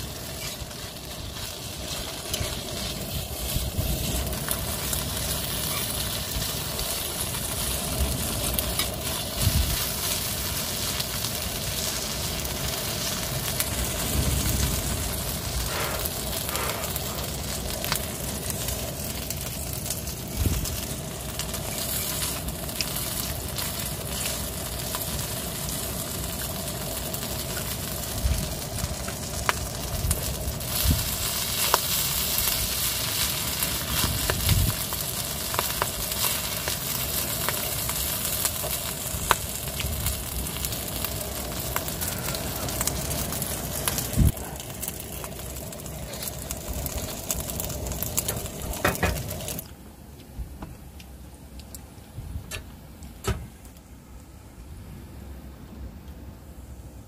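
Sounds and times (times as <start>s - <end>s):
food sizzling on a griddle: 0.0s - 49.7s.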